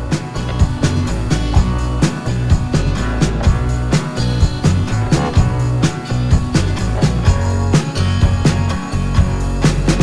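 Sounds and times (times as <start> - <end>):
band music with steady beat: 0.0 - 10.0.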